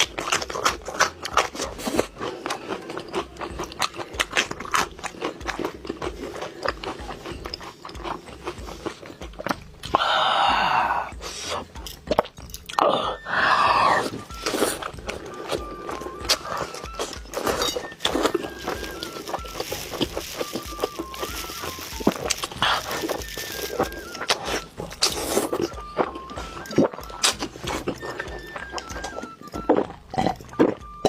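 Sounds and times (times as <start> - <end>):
crunchy chewing: 0.0 - 10.1, 11.2 - 31.0.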